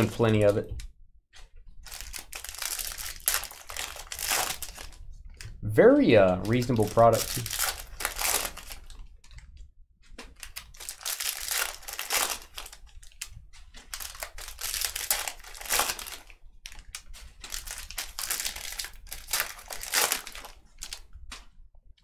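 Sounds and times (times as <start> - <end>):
foil wrappers crinkling and tearing: 1.8 - 9.5, 10.2 - 21.5.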